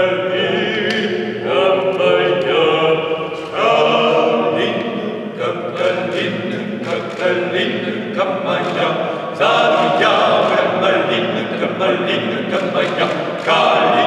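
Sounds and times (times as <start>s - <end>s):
male trio singing a cappella: 0.0s - 14.0s.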